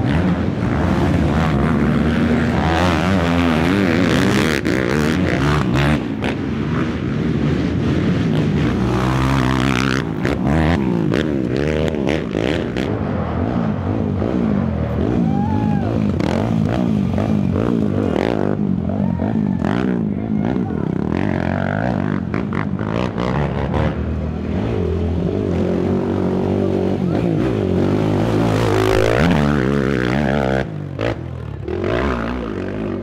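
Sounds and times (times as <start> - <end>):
quad engines revving: 0.0 - 33.0.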